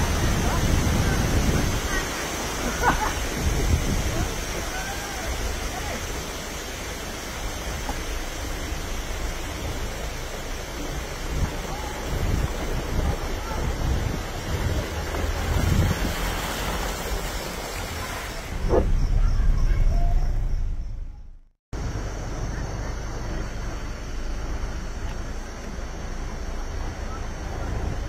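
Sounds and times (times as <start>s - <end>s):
floodwater rushing and sloshing: 0.0s - 21.0s, 21.8s - 28.0s
wind rumbling on microphone: 0.0s - 28.0s.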